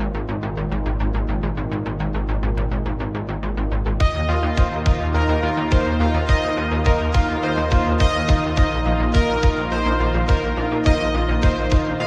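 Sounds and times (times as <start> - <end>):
fast pulsing background music: 0.0 - 12.0.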